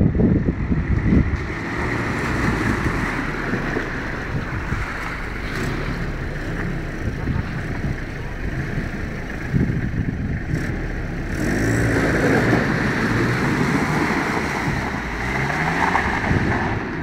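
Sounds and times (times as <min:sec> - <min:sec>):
diesel truck engine pulling: 0:00.0 - 0:17.0
water splashing around wheels: 0:00.1 - 0:17.0.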